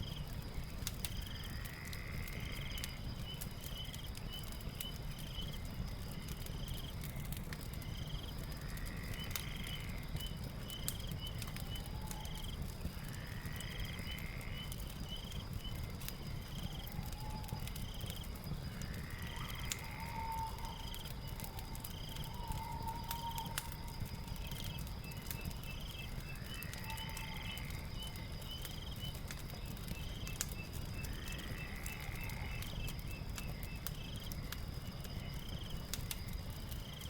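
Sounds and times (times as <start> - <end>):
fire crackling: 0.0 - 37.0
steady high insect drone: 0.0 - 37.0.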